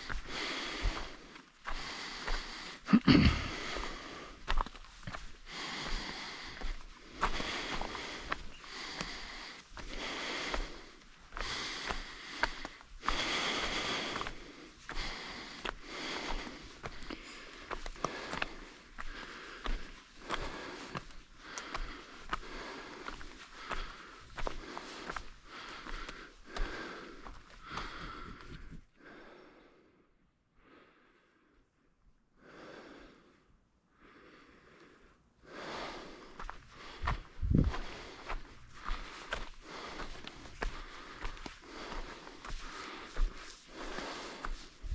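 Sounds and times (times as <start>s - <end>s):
footsteps on trail: 0.0s - 29.2s, 35.6s - 44.9s
person breathing hard: 0.0s - 31.7s, 32.3s - 44.9s.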